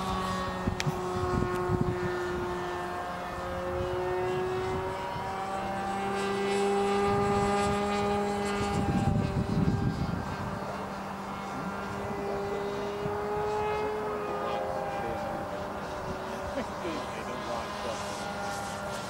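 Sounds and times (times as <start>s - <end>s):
model airplane engine high revs: 0.0s - 19.0s.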